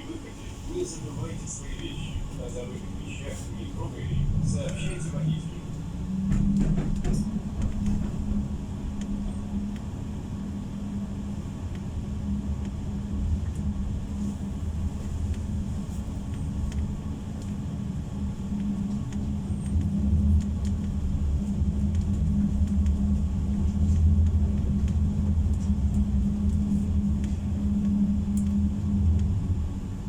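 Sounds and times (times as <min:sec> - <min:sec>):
constant hum: 0:00.0 - 0:30.0
tram wheels rumbling on rails: 0:00.0 - 0:30.0.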